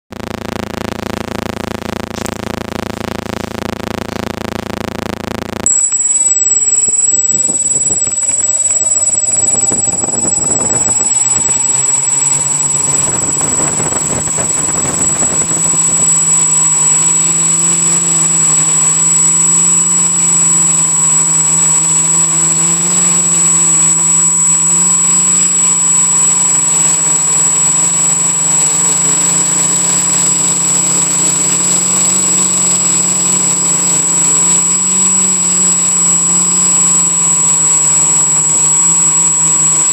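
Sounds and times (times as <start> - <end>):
quadcopter motors whining: 5.7 - 39.9.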